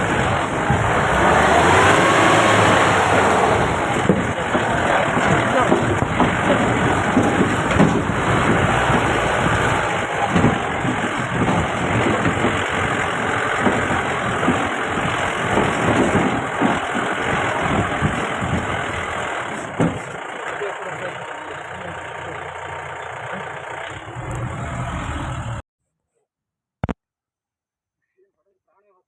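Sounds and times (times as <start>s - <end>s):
knocks and rattles: 0.0s - 24.4s
vehicle engine running: 0.0s - 25.6s.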